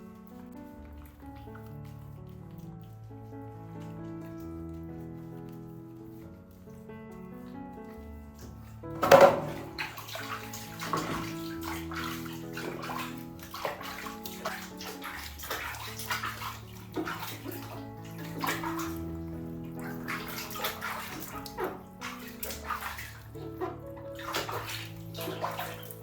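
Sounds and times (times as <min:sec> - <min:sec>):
background music: 0:00.0 - 0:26.0
water splashing in a bath: 0:00.0 - 0:26.0.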